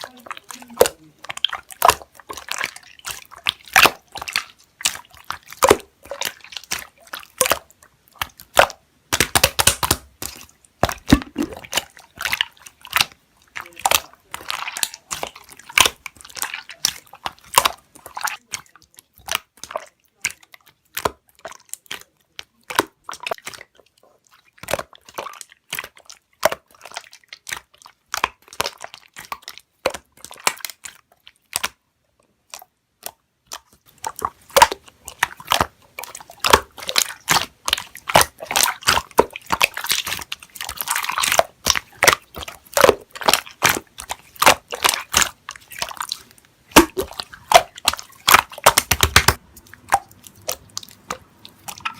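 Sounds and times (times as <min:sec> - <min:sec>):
slime being squished: 0:00.0 - 0:31.8, 0:32.4 - 0:51.9.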